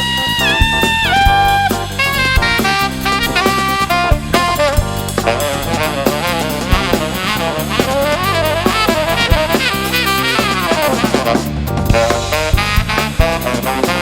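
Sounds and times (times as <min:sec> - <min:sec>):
drum kit: 0:00.0 - 0:14.0
electric bass: 0:00.0 - 0:14.0
keyboards: 0:00.0 - 0:14.0
saxophone: 0:00.0 - 0:14.0
trumpet: 0:00.0 - 0:14.0.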